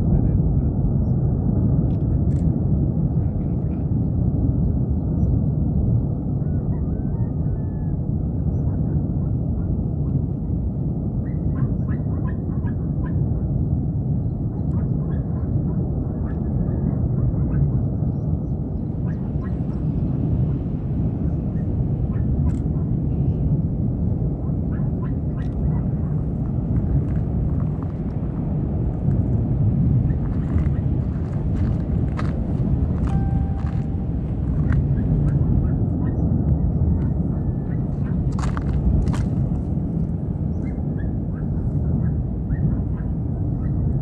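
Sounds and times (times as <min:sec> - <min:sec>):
volcano rumbling: 0:00.0 - 0:44.0.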